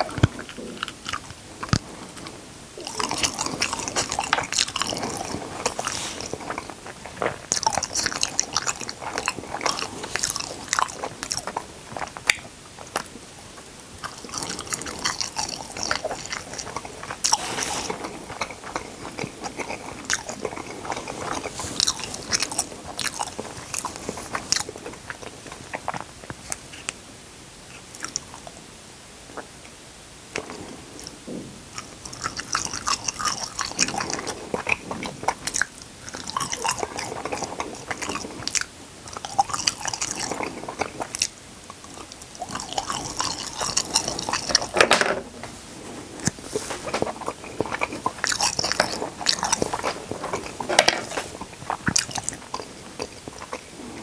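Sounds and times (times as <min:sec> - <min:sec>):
crunchy bites and chewing: 0:00.0 - 0:26.9, 0:31.8 - 0:44.8, 0:45.8 - 0:54.0.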